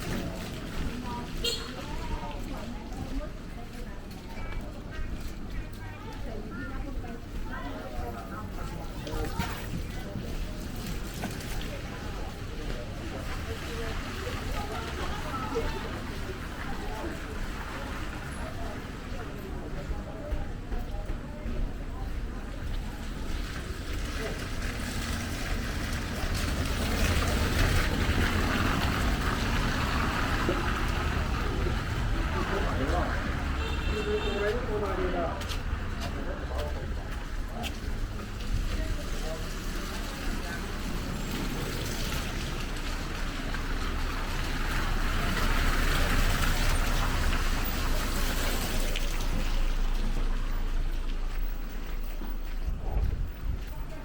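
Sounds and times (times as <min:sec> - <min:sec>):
rain on a wet street: 0:00.0 - 0:54.0.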